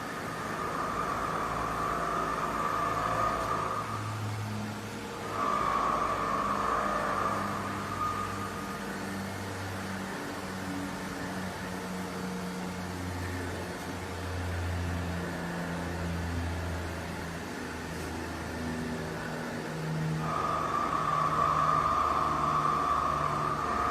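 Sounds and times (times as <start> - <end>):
high whine: 0.0 - 23.9
welding machine hum: 0.0 - 23.9.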